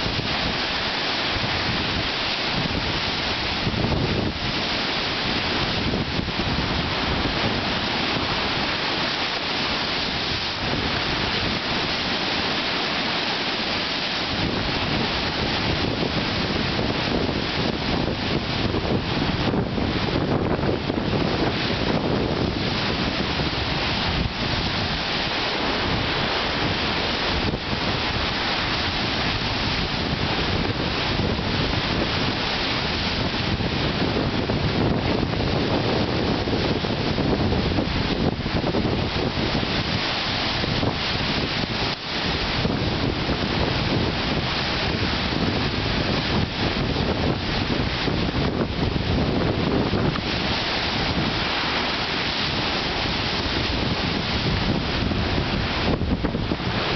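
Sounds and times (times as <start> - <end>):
waves splashing against dock: 0.0 - 56.9
wind buffeting microphone: 0.0 - 56.9.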